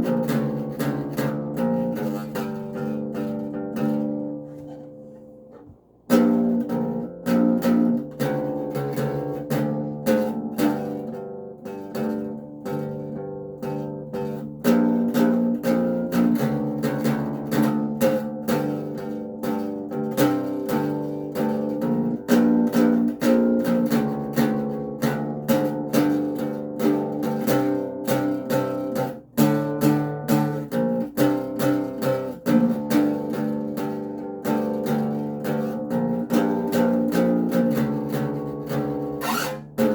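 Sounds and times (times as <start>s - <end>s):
acoustic bass guitar playing: 0.0s - 39.9s.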